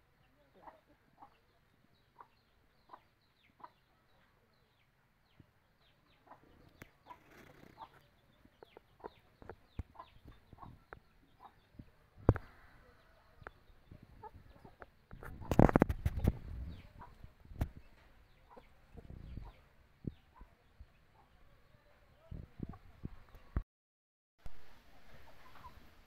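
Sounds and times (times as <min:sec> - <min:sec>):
chickens clucking: 0:00.2 - 0:23.5, 0:24.9 - 0:26.0.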